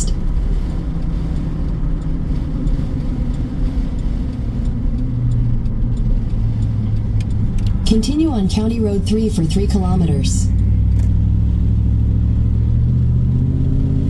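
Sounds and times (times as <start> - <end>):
pickup engine and road rumble: 0.0 - 14.0.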